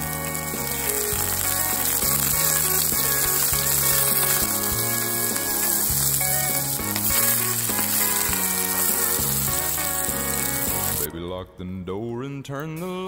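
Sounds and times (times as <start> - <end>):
prawns sizzling in oil: 0.0 - 11.1
background music with bass line: 0.0 - 12.0.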